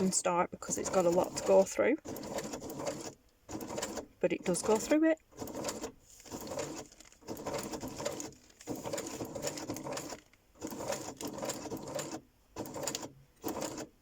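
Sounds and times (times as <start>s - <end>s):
sewing machine stitching: 0.6s - 14.0s.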